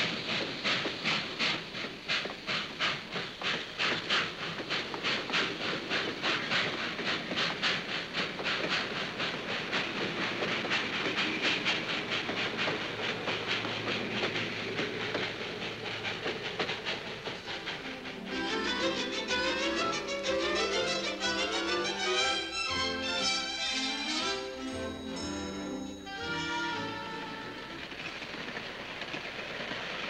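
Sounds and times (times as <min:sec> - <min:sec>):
train rhythmic hissing beats: 0:00.0 - 0:30.0.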